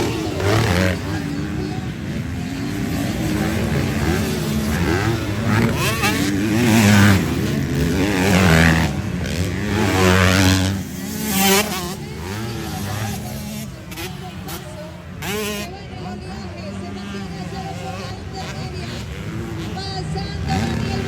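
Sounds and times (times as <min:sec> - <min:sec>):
motocross motorcycle engines revving: 0:00.0 - 0:21.0.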